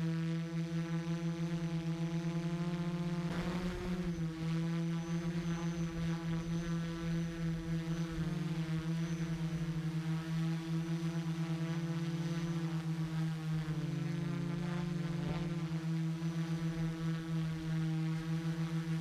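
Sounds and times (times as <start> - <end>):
drone motors buzzing: 0.7 - 19.0.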